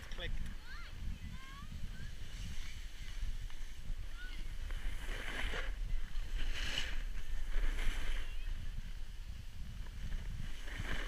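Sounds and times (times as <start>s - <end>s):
wind buffeting microphone: 0.0s - 11.0s
snowboard edges scraping snow: 1.0s - 11.0s.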